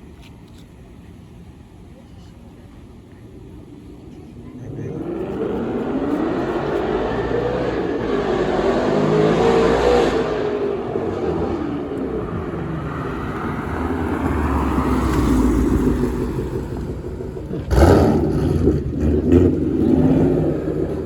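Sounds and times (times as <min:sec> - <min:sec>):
car engine revving: 0:03.4 - 0:21.0.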